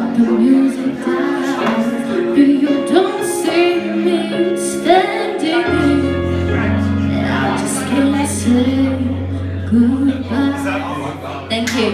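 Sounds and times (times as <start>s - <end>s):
backing music: 0.0s - 11.9s
woman singing into microphone: 0.0s - 11.9s.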